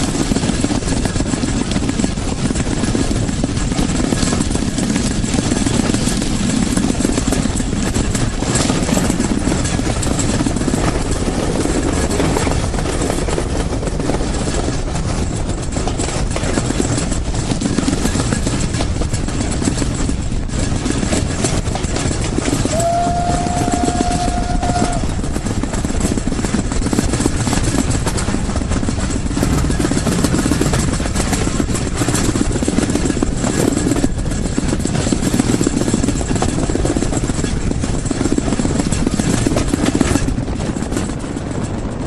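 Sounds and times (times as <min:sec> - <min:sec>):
loud rumbling like a train: 0:00.0 - 0:42.0
wind on microphone: 0:00.0 - 0:42.0.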